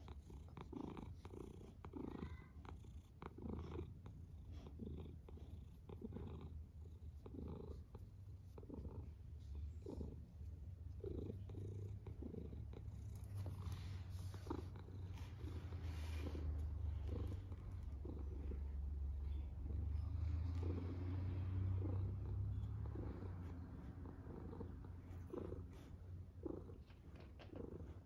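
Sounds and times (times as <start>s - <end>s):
cat purring: 0.0s - 28.0s.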